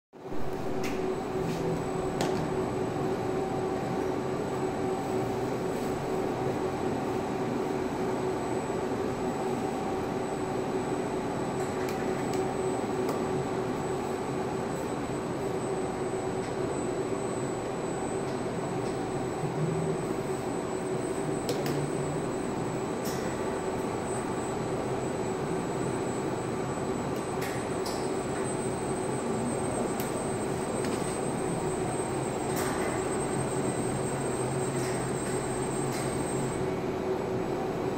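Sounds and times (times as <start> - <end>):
machine hum drone: 0.2 - 37.9.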